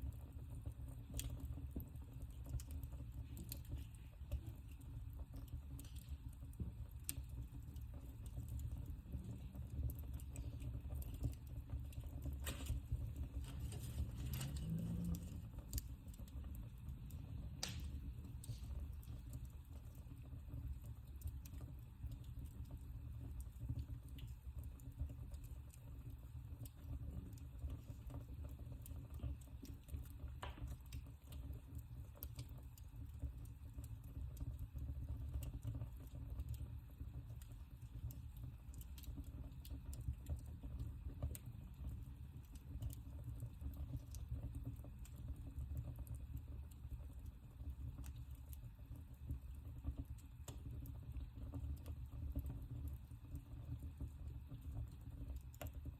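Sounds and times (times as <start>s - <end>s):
low rumble of flames: 0.0s - 55.9s
wood fire crackling and popping: 0.0s - 55.9s.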